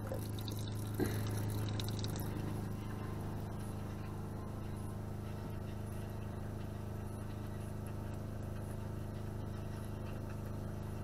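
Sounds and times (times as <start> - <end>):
water pump humming: 0.0 - 11.0.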